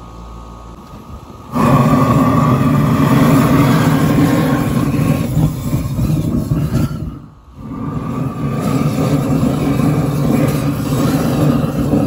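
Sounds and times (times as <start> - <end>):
torch flame roaring: 0.7 - 12.0.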